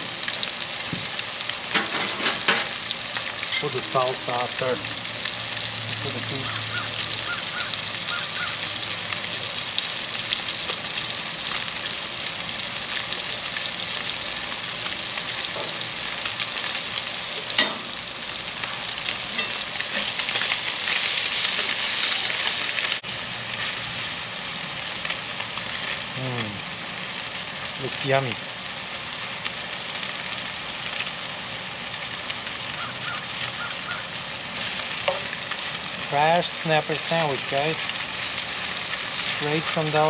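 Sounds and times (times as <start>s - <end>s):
fish sizzling in butter: 0.0s - 40.0s.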